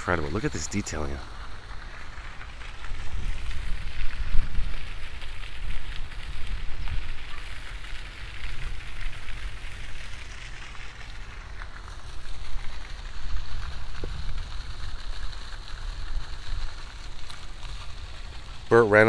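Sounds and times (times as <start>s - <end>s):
steady hiss: 0.0s - 19.0s
wind buffeting microphone: 1.4s - 10.7s, 11.4s - 17.7s.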